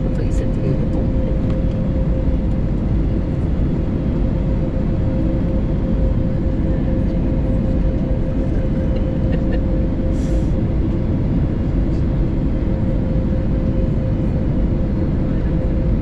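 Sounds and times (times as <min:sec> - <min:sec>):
airflow and engine rush in cabin: 0:00.0 - 0:16.0
steady hum: 0:00.0 - 0:16.0.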